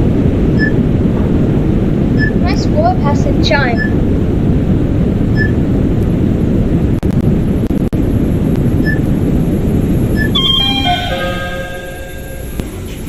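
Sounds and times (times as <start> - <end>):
lift rumbling upward: 0.0 - 13.0.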